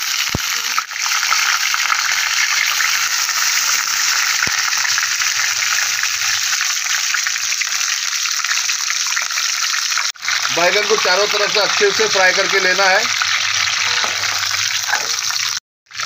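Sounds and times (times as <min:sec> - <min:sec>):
eggplants sizzling in hot oil: 0:00.0 - 0:16.0.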